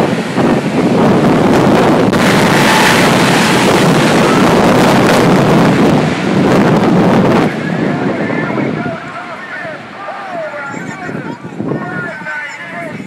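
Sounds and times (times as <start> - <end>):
jet engine blasting: 0.0 - 13.0
wind buffeting microphone: 0.0 - 13.0.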